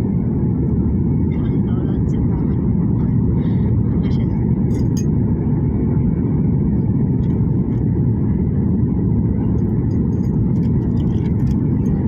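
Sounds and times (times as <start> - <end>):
aeroplane rumble: 0.0 - 12.0.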